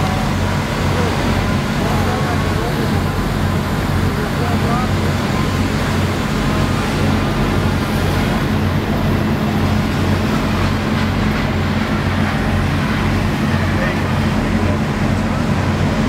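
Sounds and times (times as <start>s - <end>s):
diesel engines droning: 0.0s - 16.0s
water rushing through hoses: 0.0s - 16.0s.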